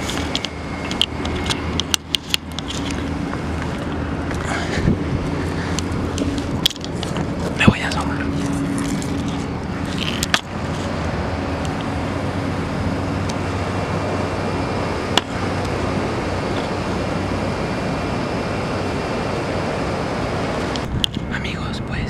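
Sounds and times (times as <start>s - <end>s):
distant city traffic: 0.0s - 22.0s.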